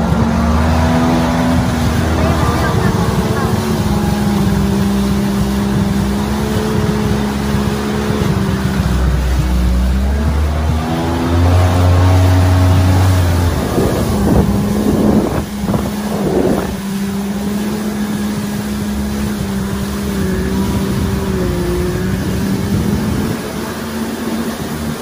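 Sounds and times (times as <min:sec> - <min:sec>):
heavy low rumble: 0:00.0 - 0:25.0
loud splashes: 0:00.0 - 0:25.0
water spray rushing: 0:00.0 - 0:25.0
watercraft engines running: 0:00.0 - 0:25.0
wind on microphone: 0:00.0 - 0:25.0.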